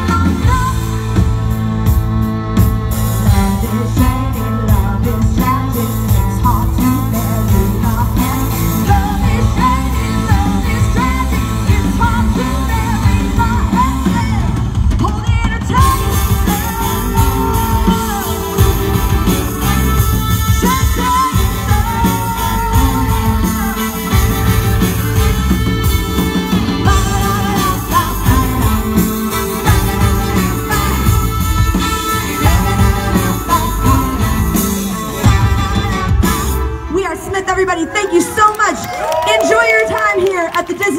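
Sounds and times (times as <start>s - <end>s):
bass line: 0.0s - 37.7s
guitar: 0.0s - 37.9s
person singing: 2.7s - 36.5s.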